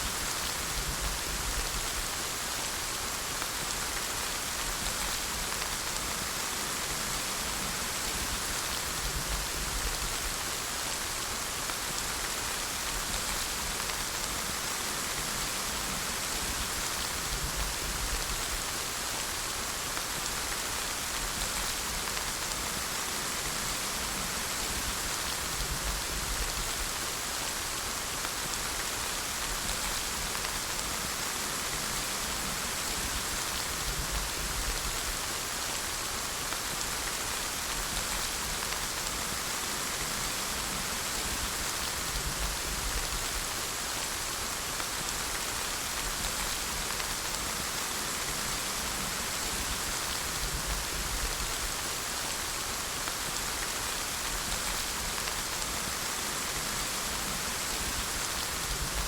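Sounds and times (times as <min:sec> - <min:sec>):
dense rainfall: 0:00.0 - 0:59.0.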